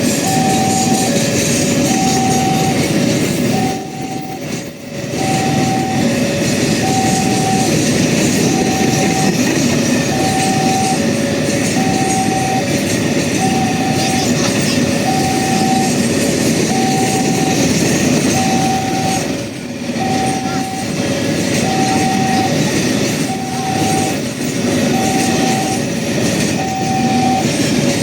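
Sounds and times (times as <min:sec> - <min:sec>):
level-crossing two-tone alarm: 0:00.0 - 0:28.0
train running: 0:00.0 - 0:28.0.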